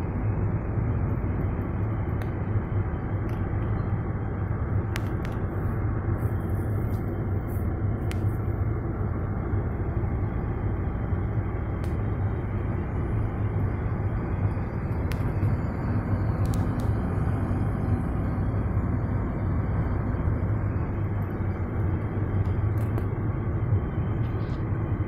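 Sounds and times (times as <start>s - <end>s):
car interior road and engine rumble: 0.0s - 25.0s.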